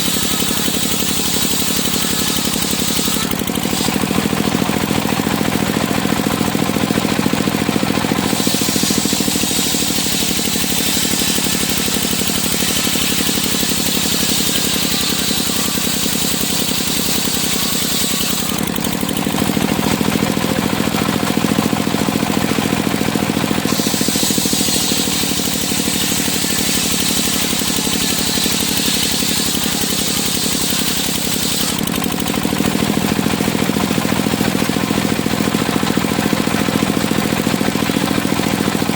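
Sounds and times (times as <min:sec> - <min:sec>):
saw blade whining through wood: 0:00.0 - 0:38.9
sawmill engine hum: 0:00.0 - 0:38.9.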